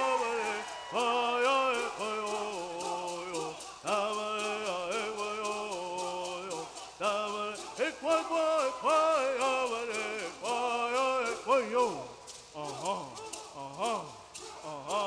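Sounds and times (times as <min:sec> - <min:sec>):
men singing in unison: 0:00.0 - 0:15.0
rattles shaken: 0:00.0 - 0:15.0.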